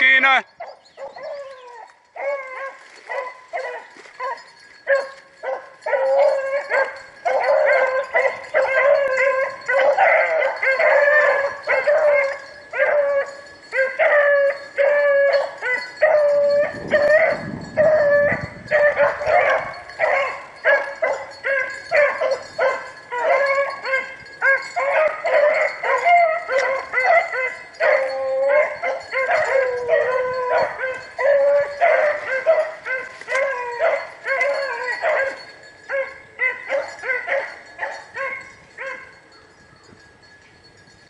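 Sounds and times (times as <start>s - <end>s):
hounds baying: 0.0s - 40.0s.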